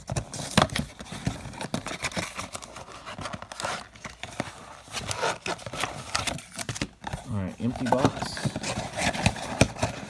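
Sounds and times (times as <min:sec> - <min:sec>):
cardboard packaging rustling: 0:00.0 - 0:10.0.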